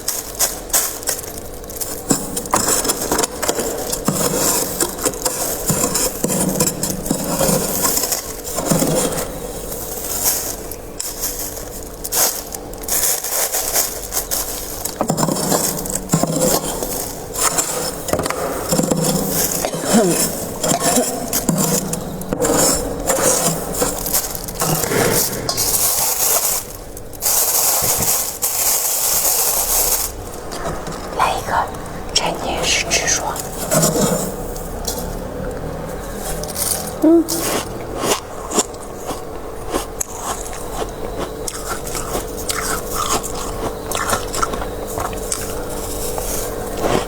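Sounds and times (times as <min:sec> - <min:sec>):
freezer frost scraping and crunching: 0:00.0 - 0:30.8, 0:35.9 - 0:47.0.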